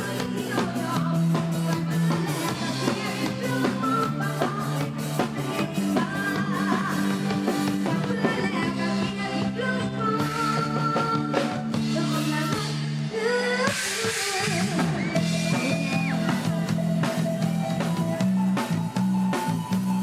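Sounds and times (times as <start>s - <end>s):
drum kit: 0.0s - 20.0s
live pop band music: 0.0s - 20.0s.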